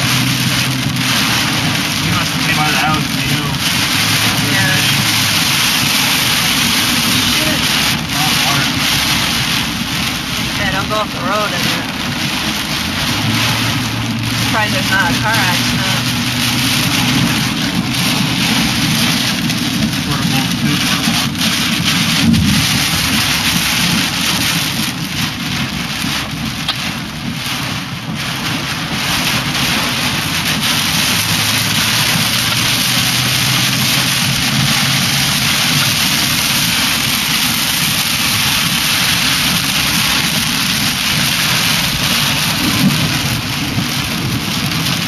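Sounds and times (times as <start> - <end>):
heavy rain on car: 0.0 - 45.0
low rumble: 0.0 - 45.0.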